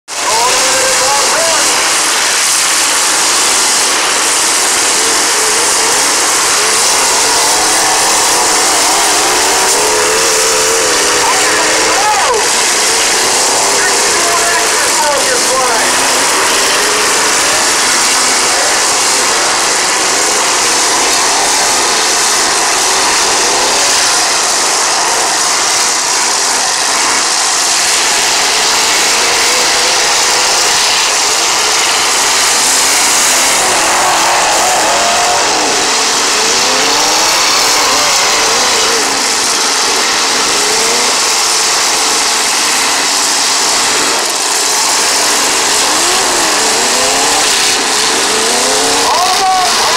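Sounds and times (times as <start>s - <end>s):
truck engines revving hard: 0.0s - 49.9s.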